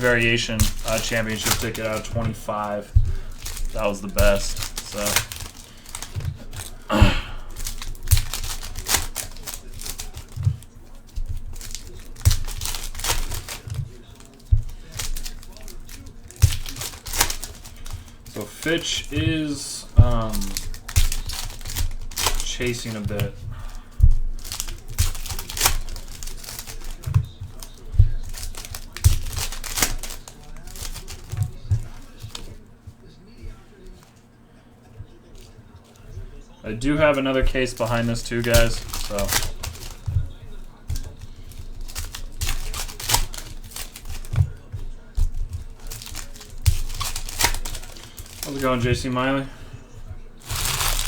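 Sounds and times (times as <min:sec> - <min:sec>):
card pack wrappers crinkling: 0:00.0 - 0:51.0
cards clicking and tapping: 0:00.0 - 0:51.0.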